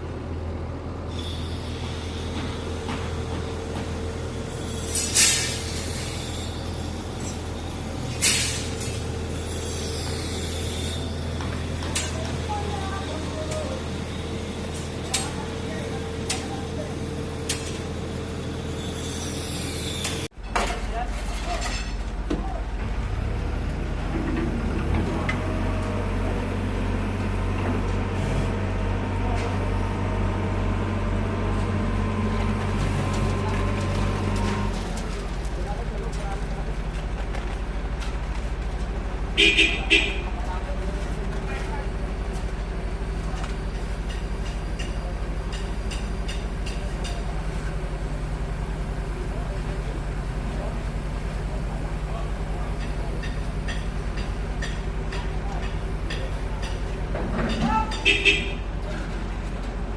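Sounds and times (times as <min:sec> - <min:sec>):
heavy engine humming: 0:00.0 - 0:21.3, 0:21.9 - 0:59.9.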